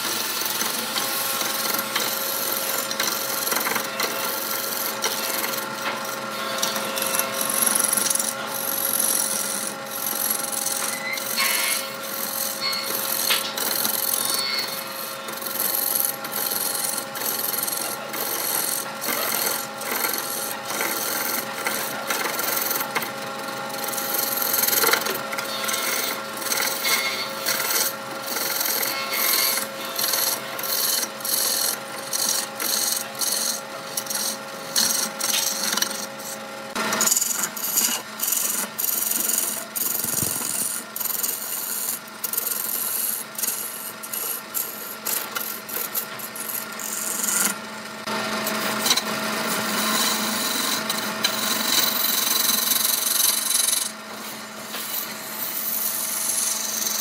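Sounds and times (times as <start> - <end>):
chisel shaving wood: 0.0 - 57.0
lathe humming: 0.0 - 57.0.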